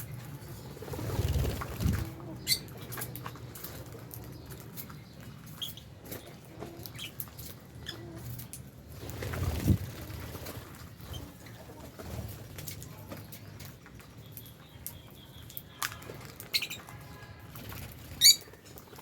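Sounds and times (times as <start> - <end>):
birds chirping: 0.0 - 19.0
light patter and rustling: 0.9 - 19.0.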